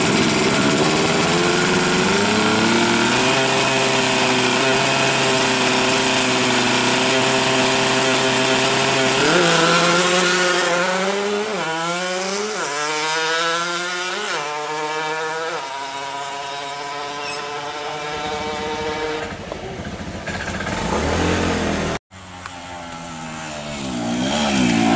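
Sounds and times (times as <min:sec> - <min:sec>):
two-stroke motorcycle engine revving: 0:00.0 - 0:24.9.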